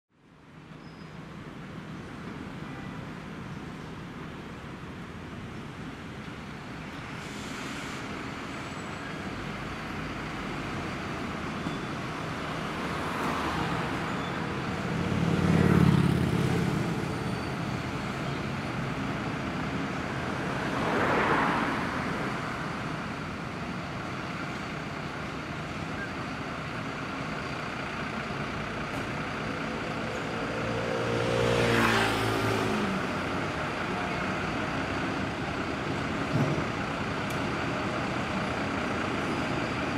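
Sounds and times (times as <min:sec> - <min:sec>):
vehicles passing: 0:00.3 - 0:39.9.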